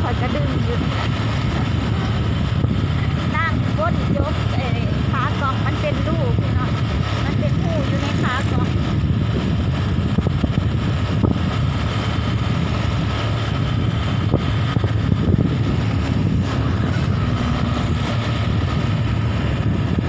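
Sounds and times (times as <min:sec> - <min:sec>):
vehicle rumble from on board: 0:00.0 - 0:20.0
wind noise on microphone: 0:00.0 - 0:20.0.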